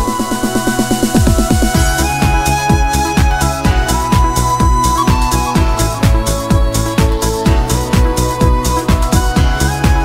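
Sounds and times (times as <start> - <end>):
electronic dance music: 0.0 - 10.0
held synth notes: 0.0 - 10.0
steady kick drum: 0.0 - 10.0.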